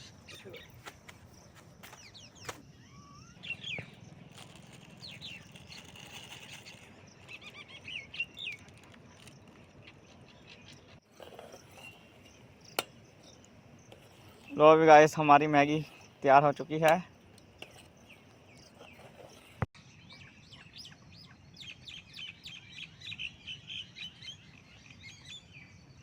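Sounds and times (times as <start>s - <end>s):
birds chirping: 0.0s - 25.8s.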